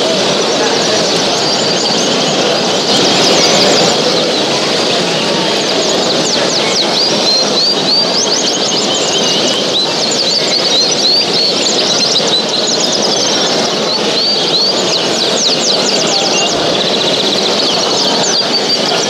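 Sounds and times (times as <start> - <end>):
cage birds chirping and trilling: 0.0 - 19.0
steady hall din: 0.0 - 19.0.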